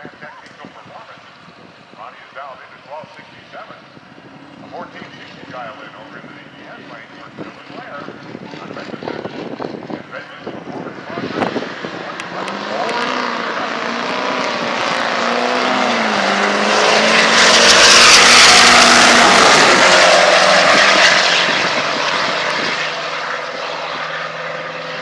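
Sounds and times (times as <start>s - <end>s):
pickup trucks racing at full throttle: 0.0s - 25.0s.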